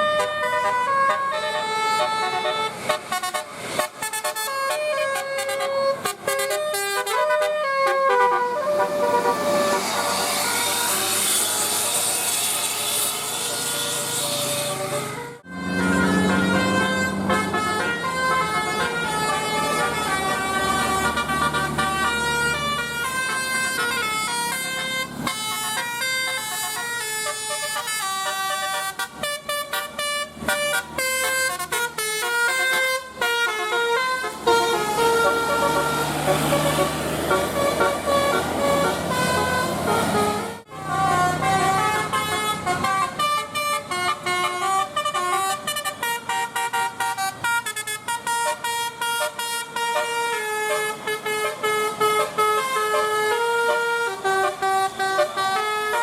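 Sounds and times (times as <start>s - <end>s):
multi-tone bus air horns: 0.0s - 56.0s.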